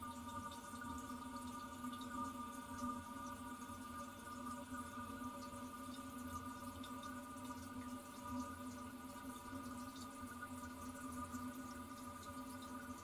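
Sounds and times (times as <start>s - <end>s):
toilet cistern refilling: 0.0s - 13.0s.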